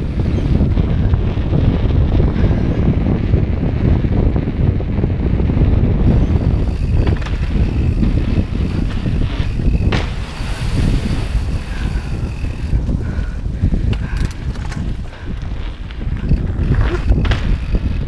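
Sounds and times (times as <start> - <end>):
bike tyres rolling on pavement: 0.0 - 18.0
wind buffeting microphone: 0.0 - 18.0.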